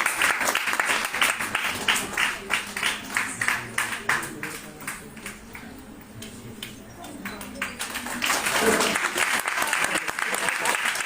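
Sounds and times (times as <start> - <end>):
audience applause: 0.0 - 5.7, 7.4 - 11.0.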